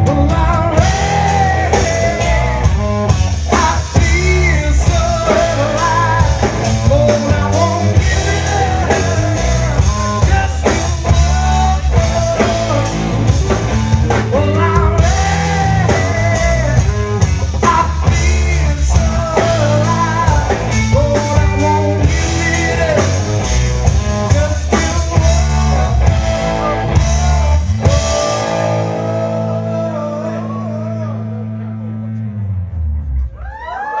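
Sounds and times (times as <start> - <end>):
live rock band playing: 0.0 - 33.8.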